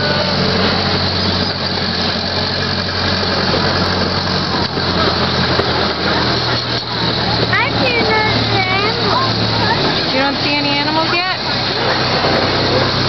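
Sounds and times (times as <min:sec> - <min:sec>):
constant ride noise: 0:00.0 - 0:13.0
small train engine running: 0:00.0 - 0:13.0.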